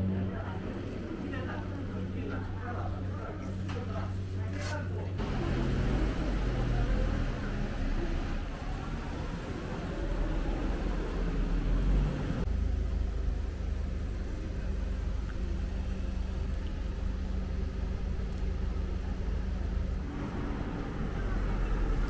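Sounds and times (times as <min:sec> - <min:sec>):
traffic noise: 0:00.0 - 0:22.0
vehicle engine humming: 0:00.0 - 0:22.0.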